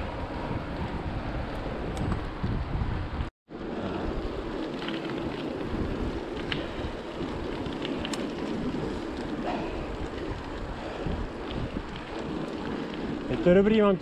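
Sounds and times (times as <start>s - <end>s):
wind on microphone: 0.0s - 13.9s
bike tyres rolling on asphalt: 0.0s - 14.0s.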